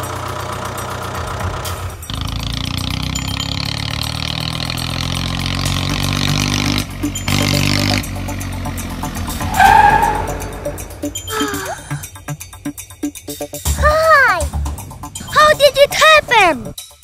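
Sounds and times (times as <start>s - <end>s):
tractor engine droning: 0.0s - 16.4s.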